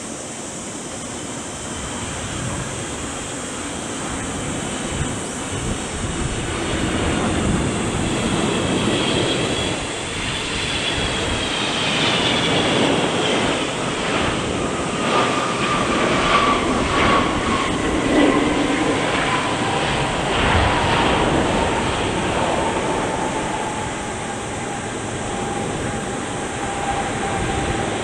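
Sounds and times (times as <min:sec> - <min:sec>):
jet airliner passing: 0:00.0 - 0:28.0.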